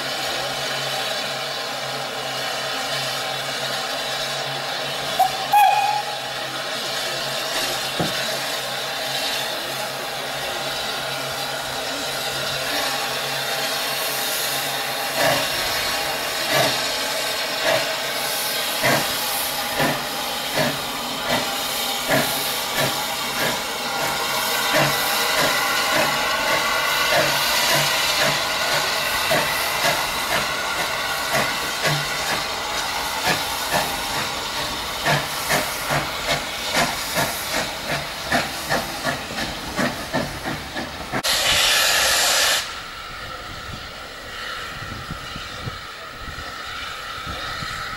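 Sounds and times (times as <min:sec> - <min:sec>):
steam hissing: 0:00.0 - 0:47.9
steam locomotive exhaust chuffs: 0:00.0 - 0:47.9.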